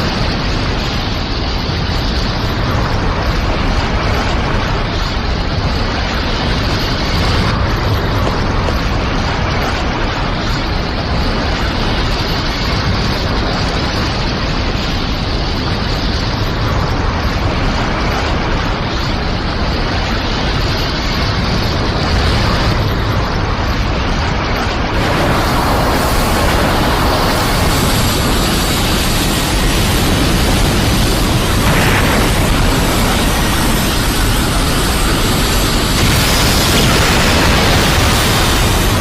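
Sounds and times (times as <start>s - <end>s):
dense rush of noise: 0.0s - 39.0s.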